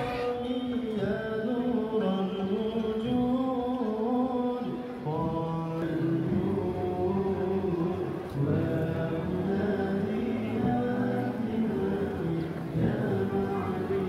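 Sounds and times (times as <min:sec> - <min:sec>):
man singing chant-like melody: 0:00.0 - 0:14.0.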